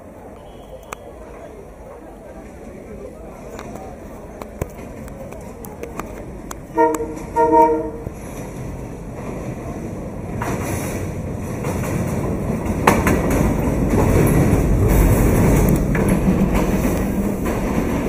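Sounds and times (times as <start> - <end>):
locomotive engine and wheels: 0.0 - 18.0.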